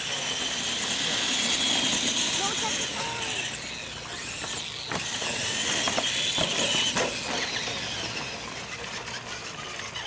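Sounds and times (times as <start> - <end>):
toy truck drivetrain whine: 0.0 - 10.0.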